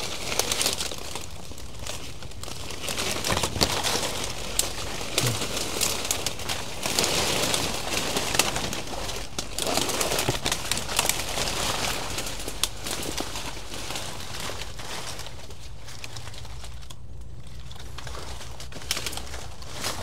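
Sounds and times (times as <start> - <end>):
rustle and crackle of vegetation: 0.0 - 20.0.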